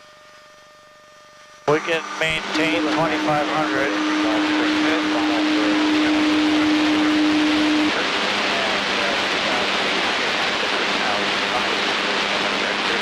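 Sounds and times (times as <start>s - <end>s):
steady hum: 0.0s - 13.0s
ultralight aircraft engine and airflow: 1.7s - 13.0s.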